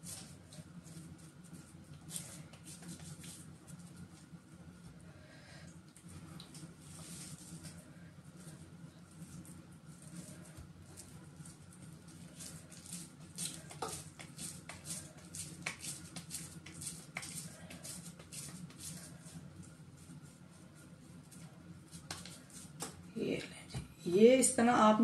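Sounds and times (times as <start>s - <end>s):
hands patting soft mixture: 0.0s - 5.1s, 5.9s - 23.1s.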